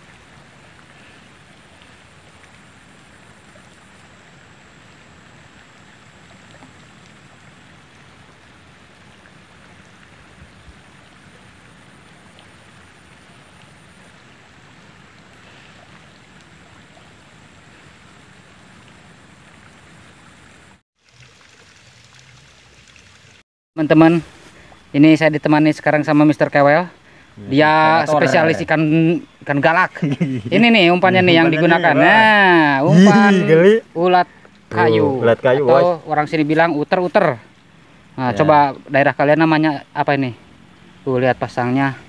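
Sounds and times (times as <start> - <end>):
flowing river water: 0.0 - 42.0.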